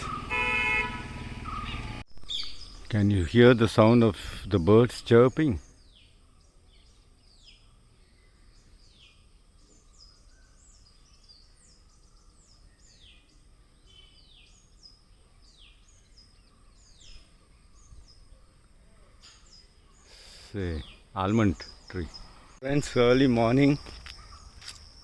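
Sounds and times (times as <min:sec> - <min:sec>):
birds chirping faintly: 0:00.0 - 0:25.0.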